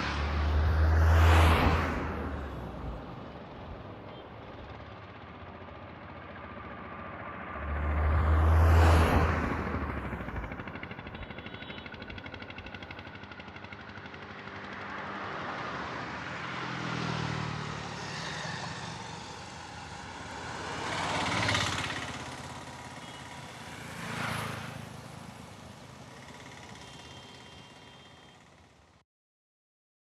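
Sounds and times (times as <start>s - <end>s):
processed traffic noise: 0.0s - 29.0s.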